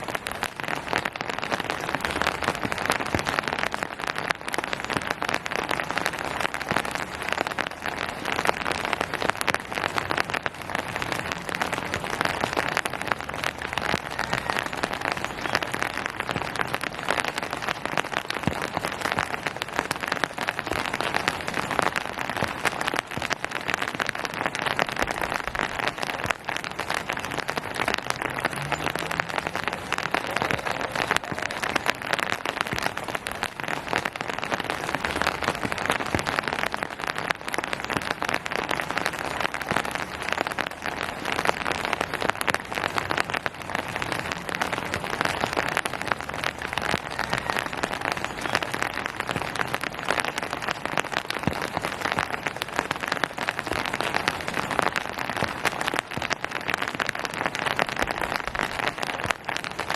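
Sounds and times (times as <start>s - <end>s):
rain falling on surfaces: 0.0s - 59.9s.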